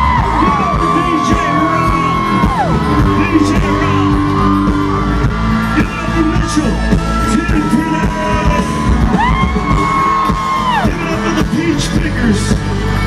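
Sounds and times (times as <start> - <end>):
audience yells and whoops: 0.0 - 13.0
live country band and singer: 0.0 - 13.0.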